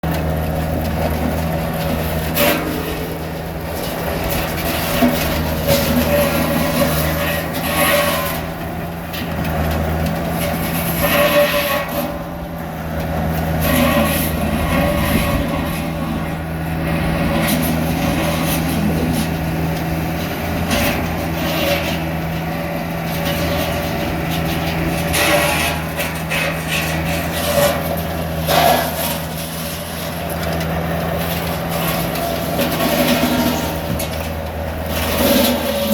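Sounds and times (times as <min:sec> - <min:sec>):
heavy engine running: 0:00.0 - 0:35.9.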